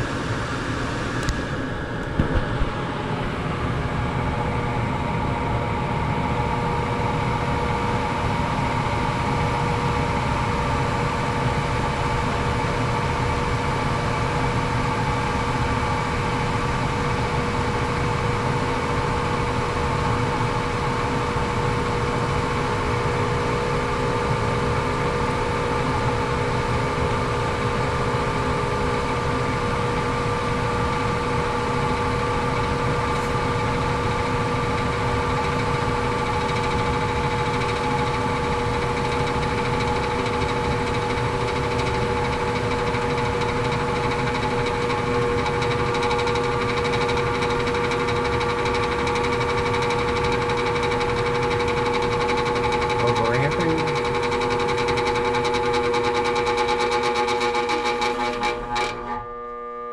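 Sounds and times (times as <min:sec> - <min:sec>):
blower motor whining: 0:00.0 - 0:59.9.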